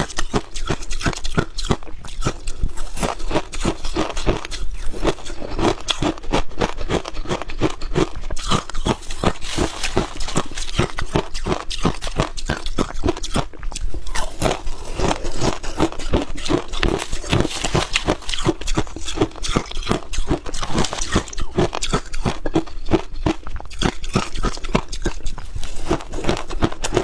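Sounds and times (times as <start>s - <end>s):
chewing crunchy frost: 0.0s - 27.0s.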